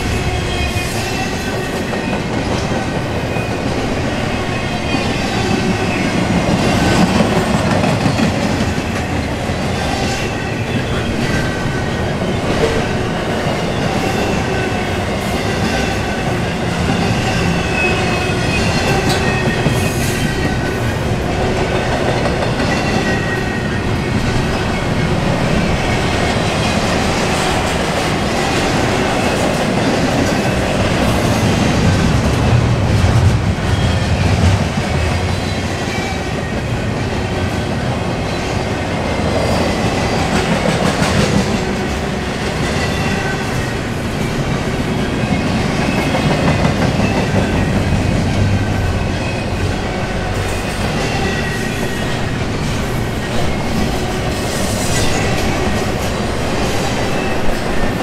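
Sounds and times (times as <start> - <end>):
rumble of steel wheels on rail: 0.0 - 58.0.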